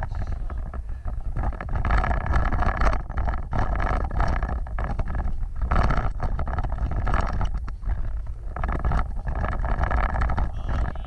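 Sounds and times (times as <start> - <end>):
knocks and rattles: 0.0 - 11.0
off-road vehicle engine rumble: 0.0 - 11.0
wind buffeting microphone: 0.0 - 11.0.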